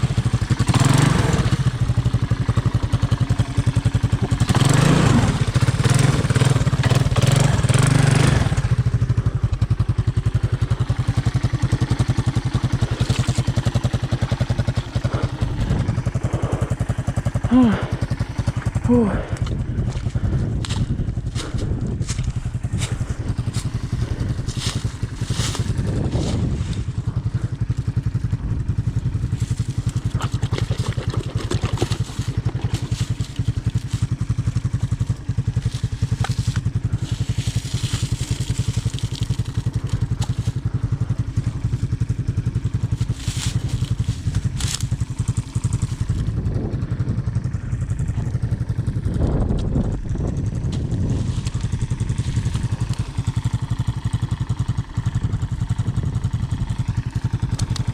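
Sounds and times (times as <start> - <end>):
engine running steadily: 0.0 - 57.9.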